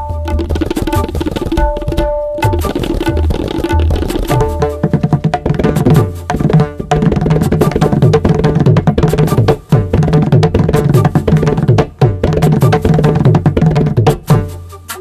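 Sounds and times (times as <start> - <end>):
music with fast drums: 0.0 - 15.0.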